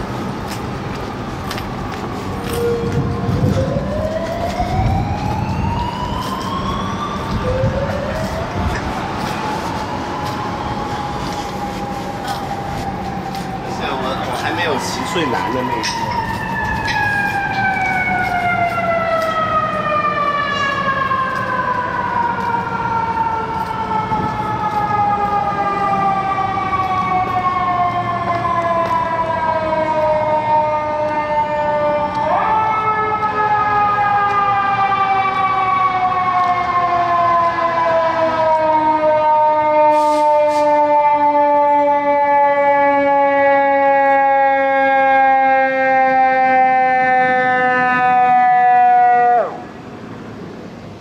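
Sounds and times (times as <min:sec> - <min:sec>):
mechanical siren wailing: 0:02.3 - 0:49.8.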